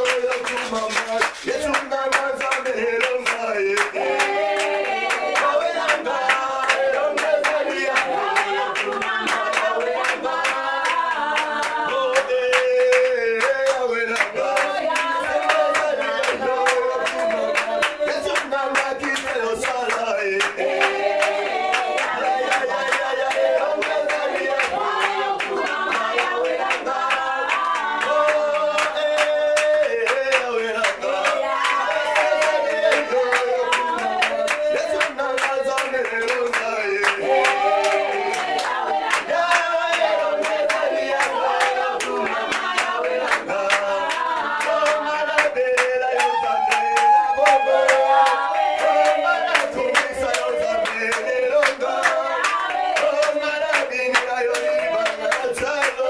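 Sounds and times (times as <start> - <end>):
congregation singing: 0.0 - 56.0
hand clapping: 0.0 - 56.0.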